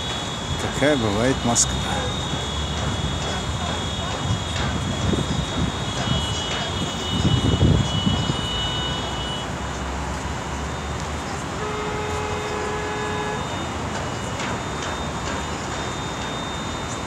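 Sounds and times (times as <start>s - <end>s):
heavy traffic hum: 0.0s - 17.0s
steady pitched tone: 0.0s - 17.0s.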